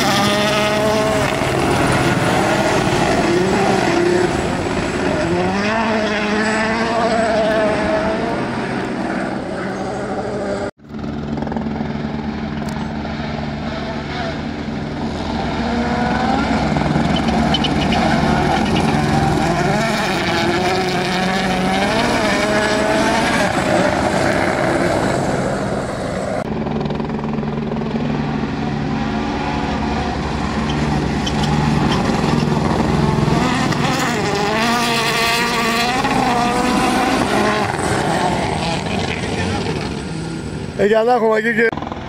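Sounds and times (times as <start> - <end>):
helicopter humming: 0.0 - 7.0, 7.6 - 42.0
rally car engines revving: 0.0 - 10.8, 12.6 - 41.7.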